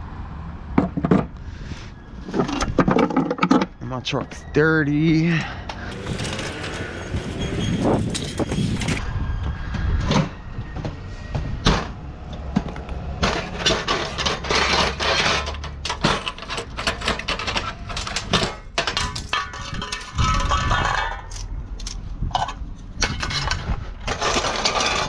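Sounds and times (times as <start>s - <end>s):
metal scraping and sliding: 1.5s - 25.0s.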